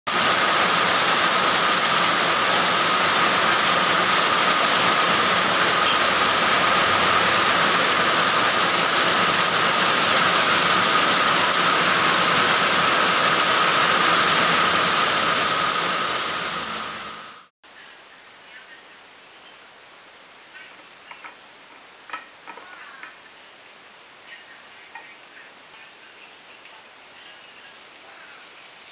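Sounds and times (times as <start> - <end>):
heavy rain on ground and leaves: 0.1 - 28.9.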